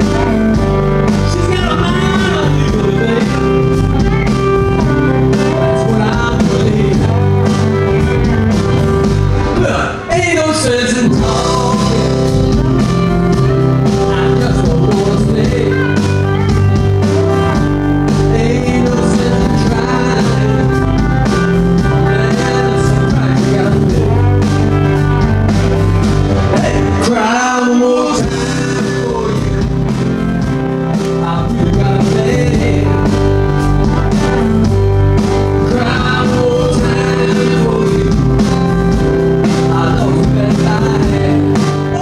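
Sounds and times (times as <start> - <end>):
bending guitar lead line: 0.0 - 42.0
live rock band playing: 0.0 - 42.0.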